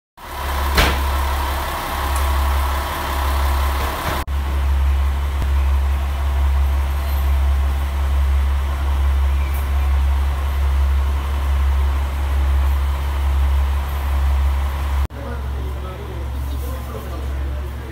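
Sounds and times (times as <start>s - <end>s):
diesel railcar engine idling: 0.2s - 17.9s.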